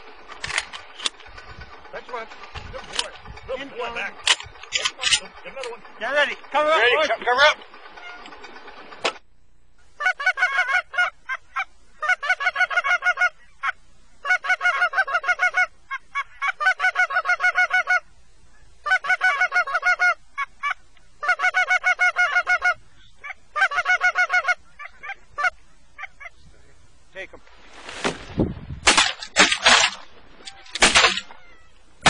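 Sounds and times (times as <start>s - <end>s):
goose call honks and clucks: 0.0s - 8.4s, 9.9s - 26.5s, 28.9s - 31.7s.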